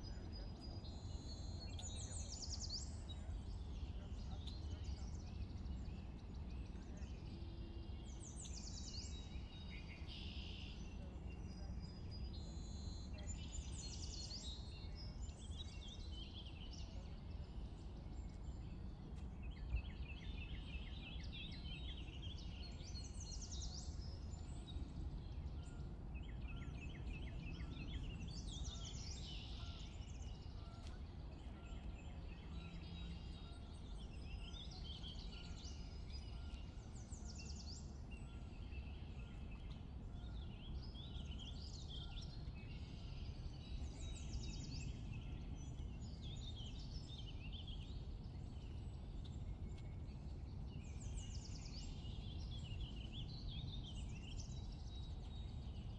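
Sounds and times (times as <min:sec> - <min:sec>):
small birds singing: 0:00.0 - 0:55.9.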